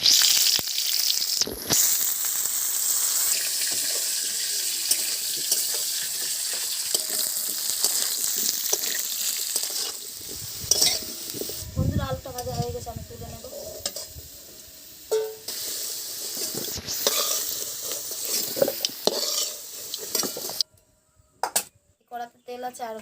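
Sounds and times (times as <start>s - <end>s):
hot oil spitting: 0.0s - 20.6s
potatoes sizzling in oil: 0.0s - 20.6s.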